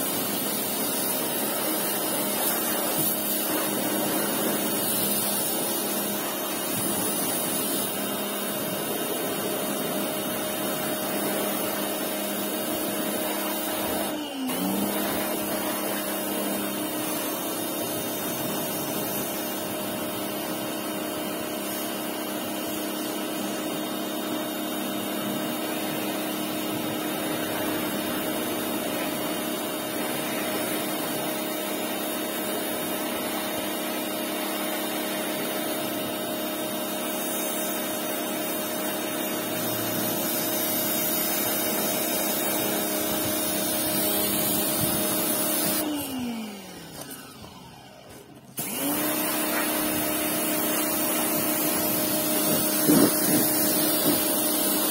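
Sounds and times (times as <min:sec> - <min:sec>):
water jet hissing: 0:00.0 - 0:45.9, 0:48.6 - 0:54.9
pressure washer motor hum: 0:00.0 - 0:54.9.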